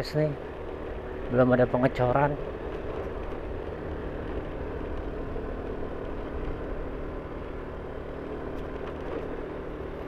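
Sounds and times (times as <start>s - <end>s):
motorcycle engine under load: 0.4s - 10.0s.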